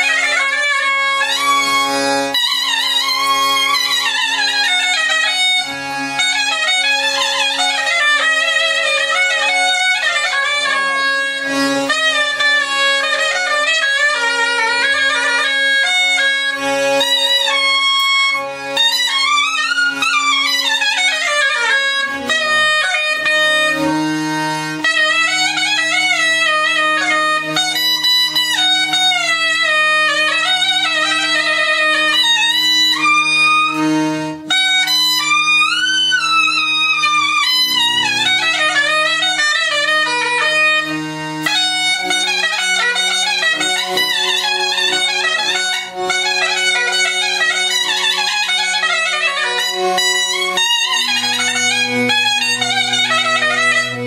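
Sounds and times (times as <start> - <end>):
double-reed pipe folk melody: 0.0 - 54.0.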